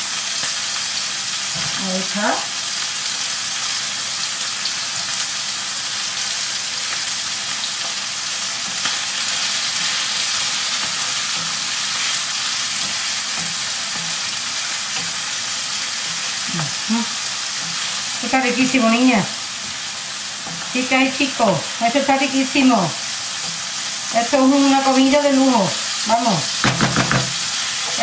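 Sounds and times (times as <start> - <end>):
potatoes deep-frying in oil: 0.0 - 28.0
prawns sizzling in a pan: 0.0 - 28.0.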